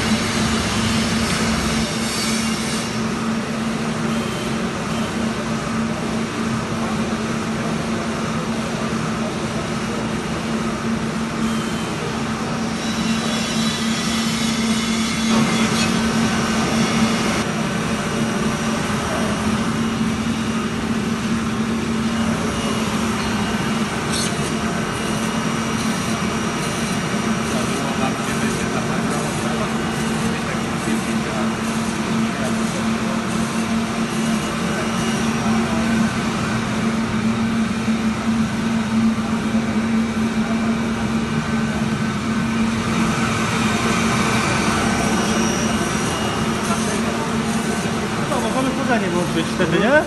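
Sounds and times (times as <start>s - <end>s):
blower rushing noise: 0.0s - 3.6s, 12.1s - 50.0s.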